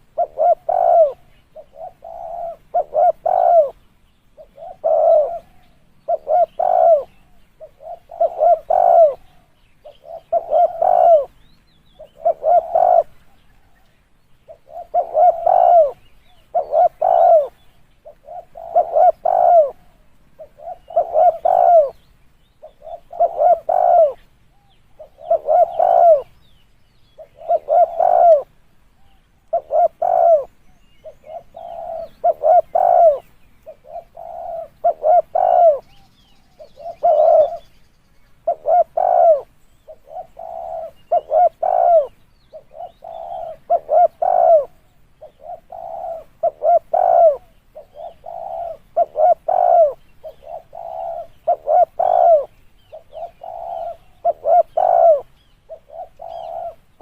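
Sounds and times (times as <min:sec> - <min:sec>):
dove cooing: 0:00.0 - 0:13.9, 0:14.5 - 0:22.0, 0:22.6 - 0:26.5, 0:27.1 - 0:37.7, 0:38.4 - 0:57.0.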